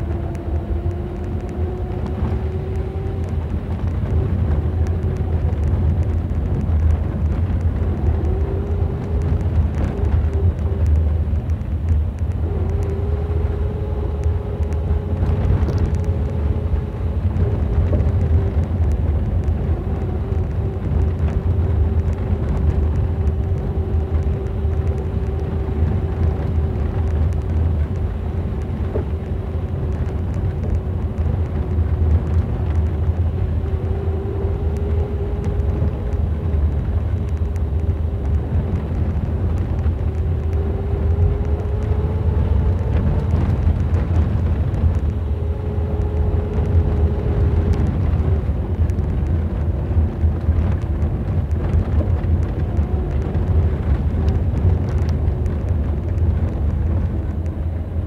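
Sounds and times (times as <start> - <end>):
car engine drone: 0.0 - 58.0
road rumble: 0.0 - 58.0
transmission whine: 0.0 - 58.0.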